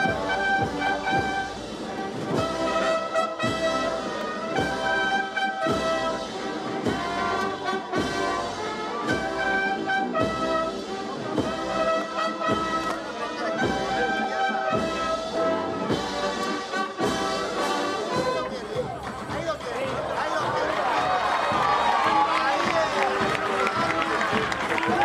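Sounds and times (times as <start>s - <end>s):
brass band playing slow march: 0.0s - 25.0s
heavy drum beat: 0.0s - 25.0s.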